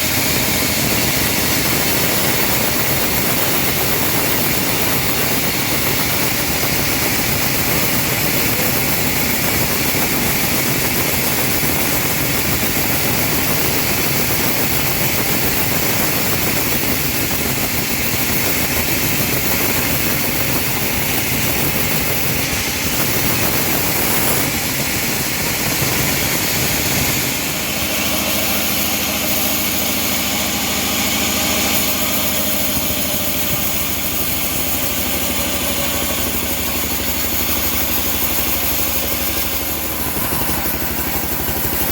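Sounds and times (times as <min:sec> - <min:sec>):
bandsaw mill sawing log: 0:00.0 - 0:41.9.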